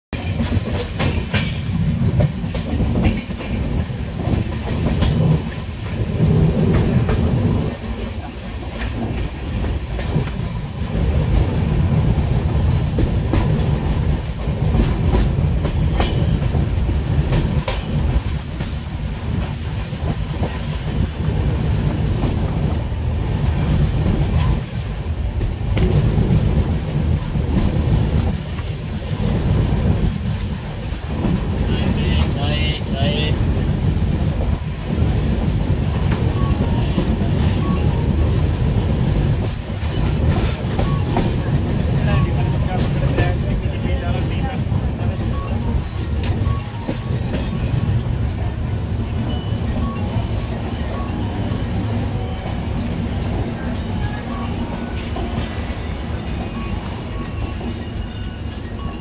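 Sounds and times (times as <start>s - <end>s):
train wheels rumbling on rails: 0.1s - 59.0s.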